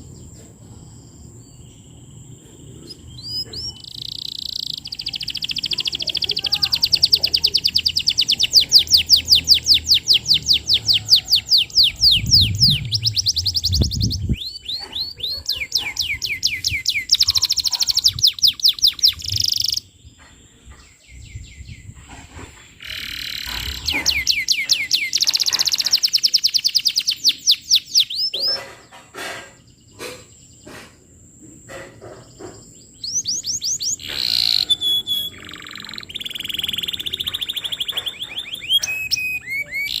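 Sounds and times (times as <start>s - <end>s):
canary singing trills: 0.0s - 31.0s, 31.6s - 40.0s.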